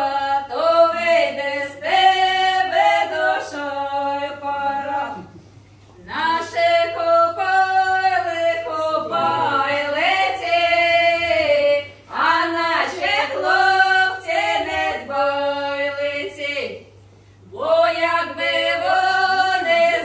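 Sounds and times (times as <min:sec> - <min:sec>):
women singing unaccompanied: 0:00.0 - 0:05.4, 0:06.0 - 0:16.9, 0:17.5 - 0:20.0.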